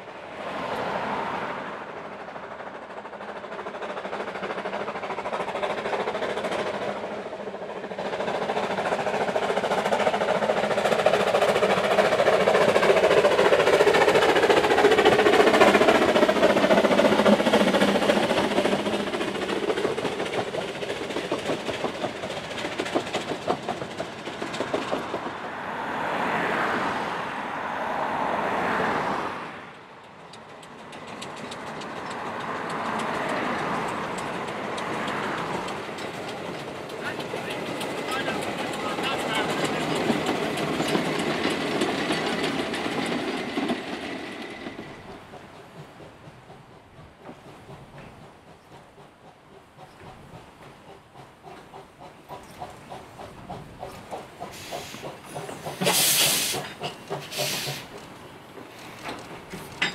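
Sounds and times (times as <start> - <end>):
steam train passing: 0.0 - 59.9
wheels clicking over rail joints: 1.9 - 59.9.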